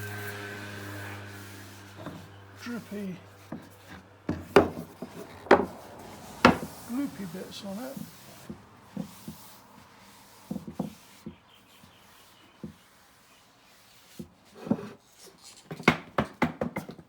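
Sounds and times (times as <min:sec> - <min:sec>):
cloth rubbing on wood: 0:00.0 - 0:15.4.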